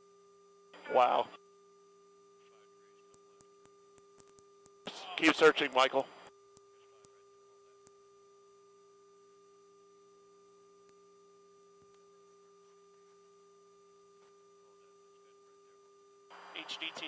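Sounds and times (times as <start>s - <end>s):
faint electronic hum: 0.0s - 17.0s.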